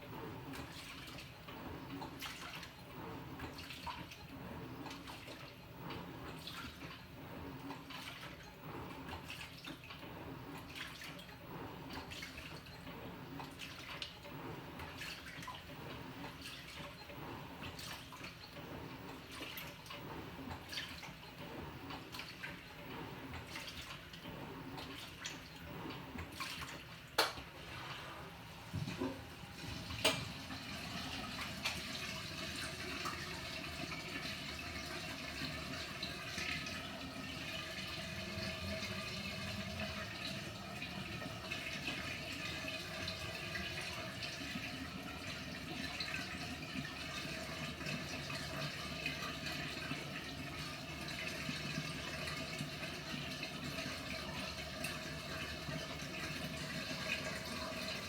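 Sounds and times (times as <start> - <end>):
washing machine water sloshing: 0.0 - 58.0.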